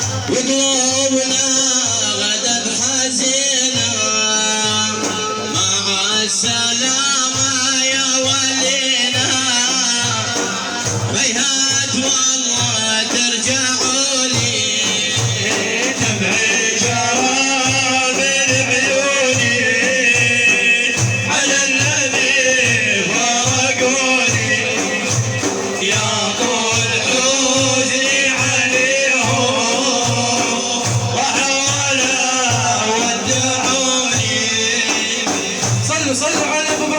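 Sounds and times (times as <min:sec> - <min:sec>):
frame drums beating: 0:00.0 - 0:36.9
man chanting religious song: 0:00.0 - 0:36.9.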